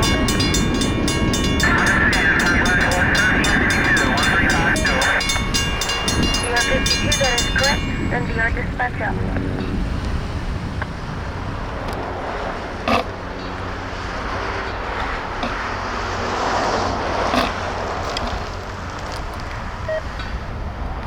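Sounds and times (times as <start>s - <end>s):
car passing: 0.0s - 21.0s
road traffic passing: 0.0s - 21.0s.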